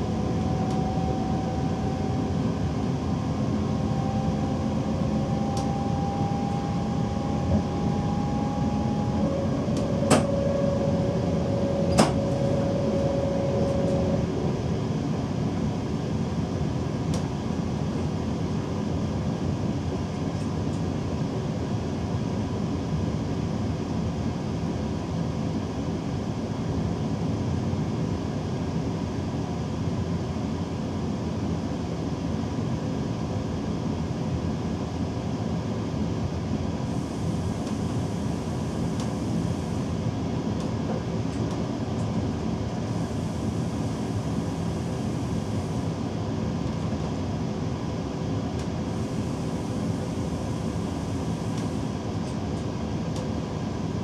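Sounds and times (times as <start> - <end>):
train rumbling with whining tones: 0.0 - 54.0.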